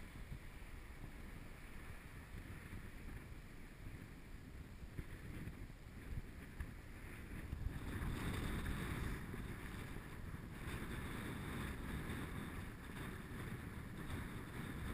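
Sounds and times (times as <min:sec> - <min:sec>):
muffled storm surf breaking: 0:00.0 - 0:14.9
wind against camera housing: 0:00.0 - 0:14.9.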